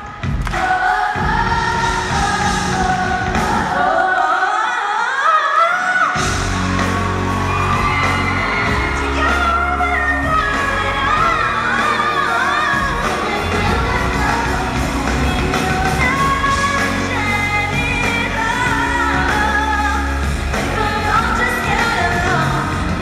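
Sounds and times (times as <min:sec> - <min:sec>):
live pop band: 0:00.0 - 0:23.0
woman singing lead vocal: 0:00.0 - 0:23.0.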